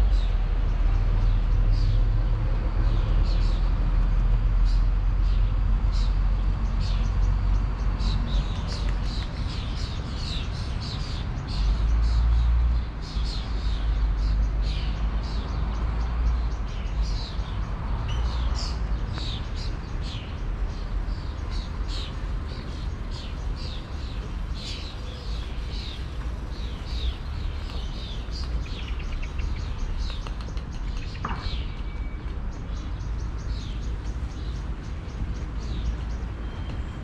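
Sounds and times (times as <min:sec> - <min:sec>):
small birds chirping: 0:04.6 - 0:37.0.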